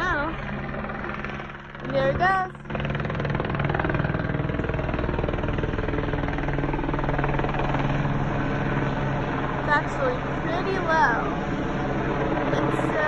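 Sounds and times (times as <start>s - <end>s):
helicopter engine drone: 0.0s - 13.0s
helicopter rotor chop: 0.0s - 13.0s.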